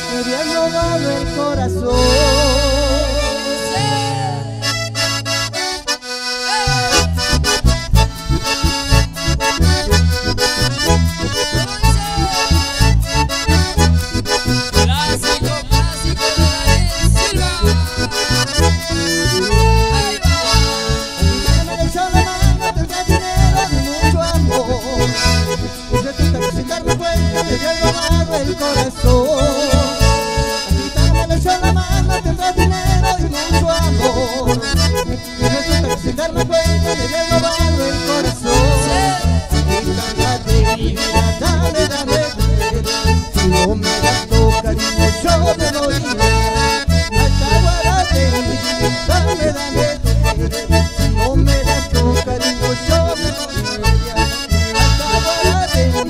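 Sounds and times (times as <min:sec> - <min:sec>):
acoustic guitar: 0:00.0 - 0:56.0
bandoneon: 0:00.0 - 0:56.0
electric bass: 0:00.0 - 0:56.0
piano accordion: 0:00.0 - 0:56.0.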